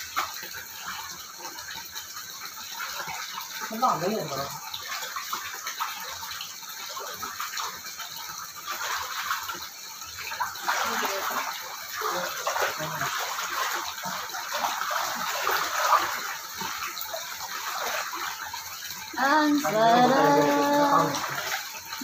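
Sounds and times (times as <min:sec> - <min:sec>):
water lapping and splashing: 0:00.0 - 0:22.0.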